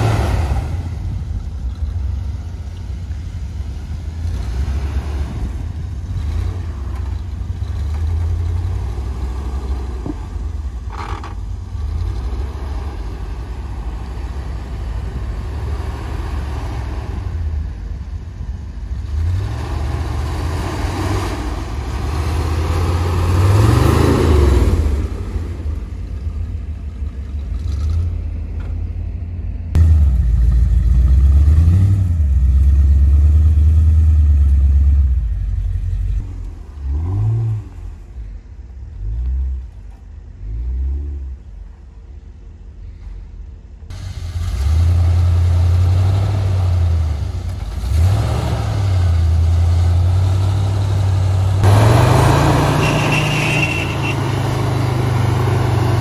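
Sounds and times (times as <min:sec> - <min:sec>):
off-road truck engine revving: 0:00.0 - 0:28.7, 0:29.7 - 0:41.8, 0:43.9 - 0:56.0
engine droning steadily: 0:00.0 - 0:56.0.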